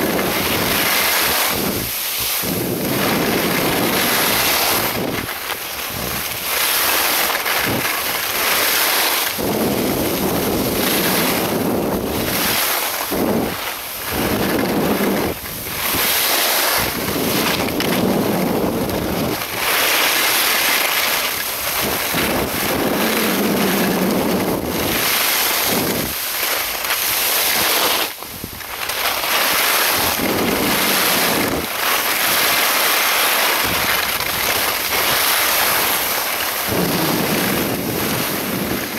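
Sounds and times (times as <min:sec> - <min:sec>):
wind buffeting microphone: 0:00.0 - 0:26.3, 0:29.8 - 0:32.6, 0:33.5 - 0:38.9.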